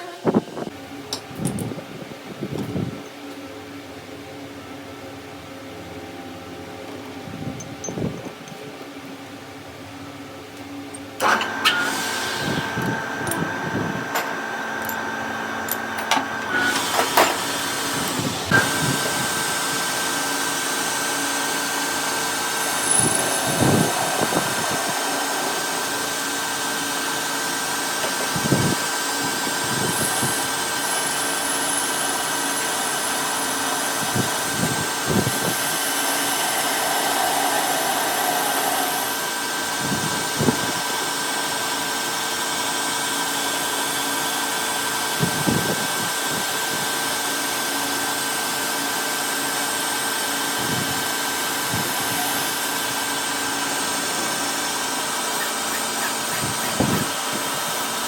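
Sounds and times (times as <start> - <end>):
metalworking machine whining: 10.9 - 58.0.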